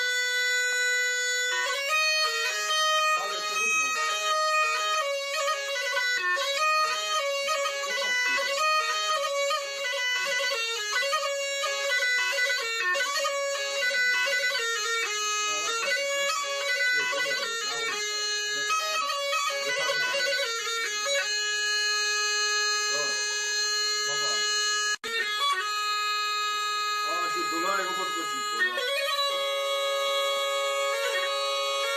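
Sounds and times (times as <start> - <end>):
bagpipe folk melody: 0.0 - 31.9.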